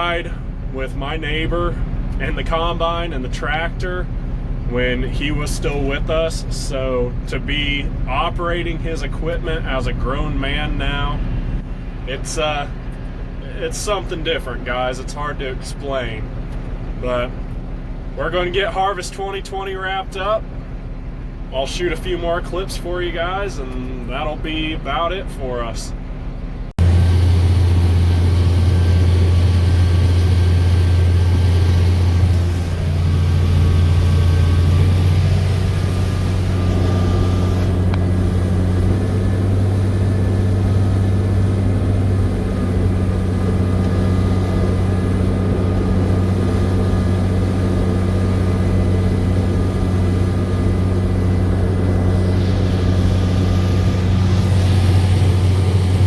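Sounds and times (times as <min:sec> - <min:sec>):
tractor engine running under load: 0:00.0 - 0:25.4, 0:26.0 - 0:56.0.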